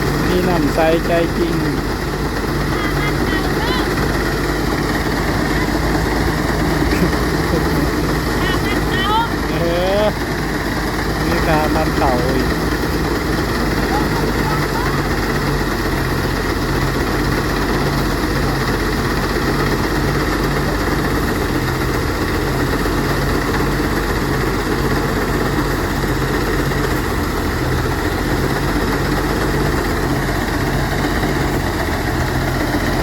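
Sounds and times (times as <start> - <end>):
rice threshing machine running: 0.0 - 33.0.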